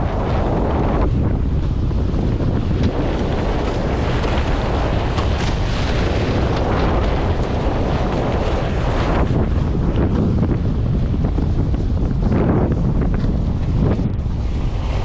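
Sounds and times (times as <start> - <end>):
water rushing off hulls: 0.0 - 15.0
wind buffeting microphone: 0.0 - 15.0.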